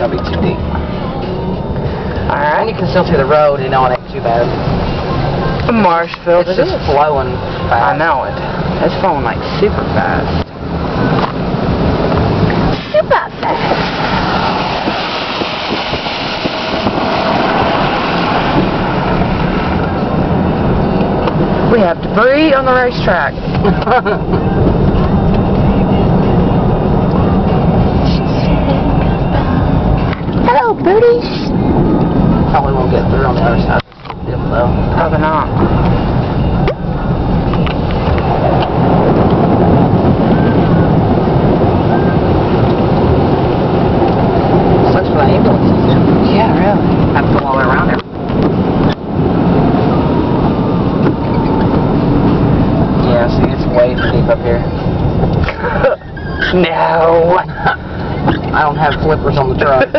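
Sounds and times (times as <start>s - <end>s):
truck driving: 0.0s - 59.9s.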